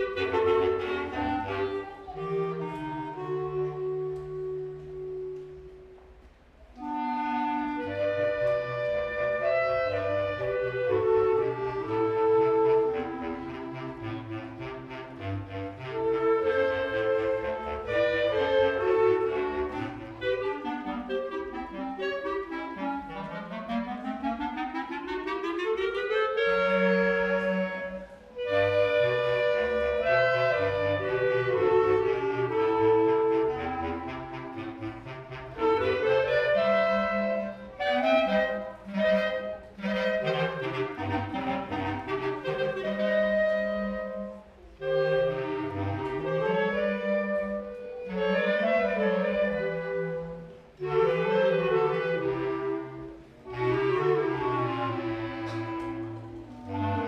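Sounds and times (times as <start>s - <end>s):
clarinet choir playing a hymn: 0.0s - 57.0s.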